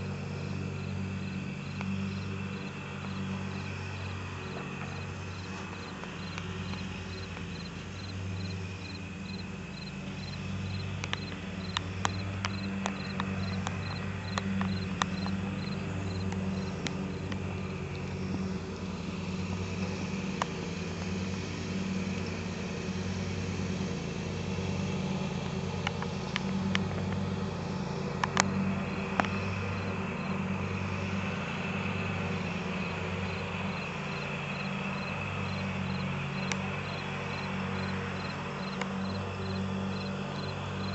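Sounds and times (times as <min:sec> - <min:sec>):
other insects: 0:00.0 - 0:40.9
crickets chirping: 0:00.1 - 0:20.9, 0:27.6 - 0:40.9.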